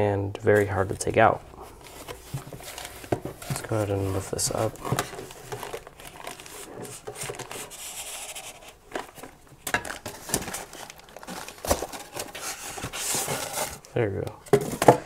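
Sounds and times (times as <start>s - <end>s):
packaging rustling and crinkling: 0.6s - 15.0s.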